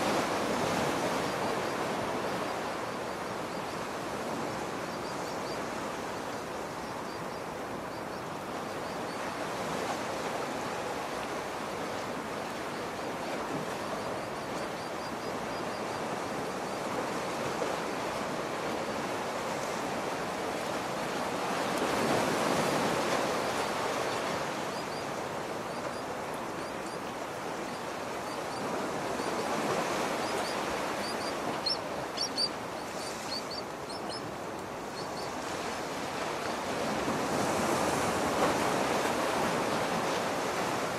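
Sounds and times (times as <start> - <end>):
sea waves washing on shore: 0.0 - 40.9.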